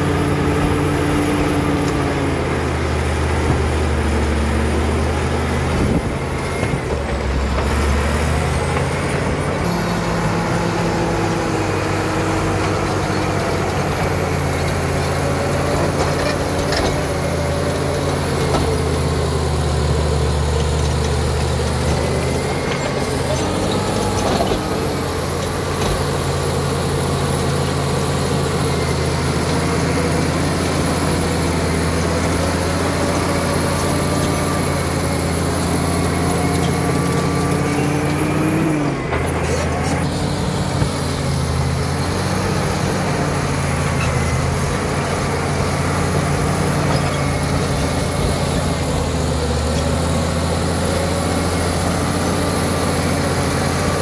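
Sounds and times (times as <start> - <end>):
bulldozer blade pushing earth and rock: 0.0 - 54.0
bulldozer diesel engine running hard: 0.0 - 54.0.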